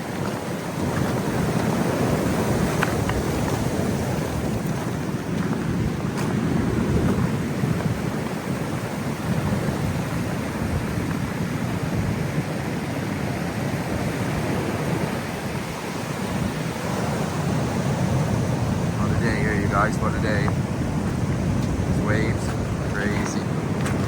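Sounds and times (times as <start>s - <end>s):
ocean surf breaking on shore: 0.0s - 24.0s
wind buffeting microphone: 0.0s - 24.0s.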